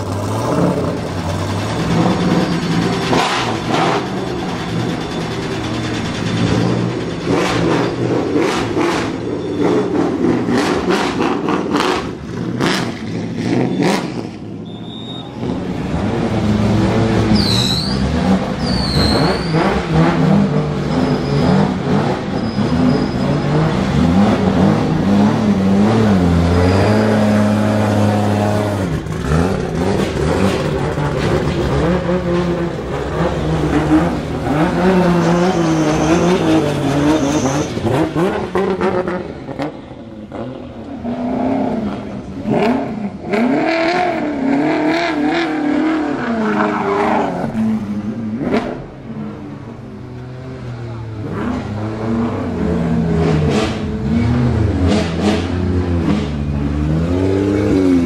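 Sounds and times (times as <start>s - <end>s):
car engines idling and revving: 0.0s - 58.0s.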